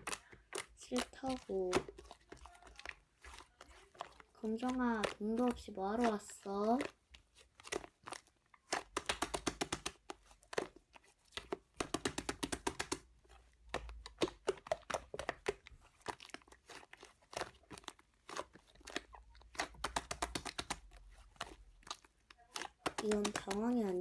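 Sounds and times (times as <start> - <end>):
slime squeezed by hand: 0.0 - 24.0.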